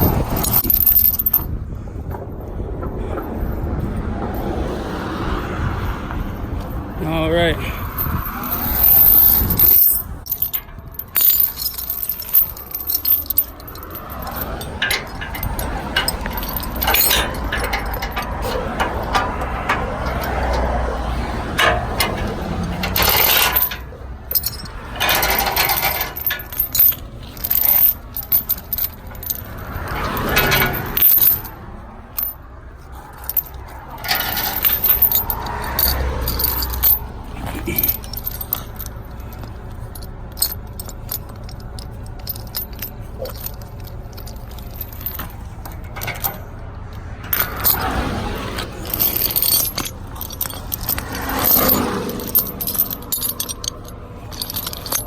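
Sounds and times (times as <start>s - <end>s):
metal chain clinking and rattling: 0.0s - 4.8s, 6.1s - 55.0s
truck engine idling: 6.2s - 55.0s.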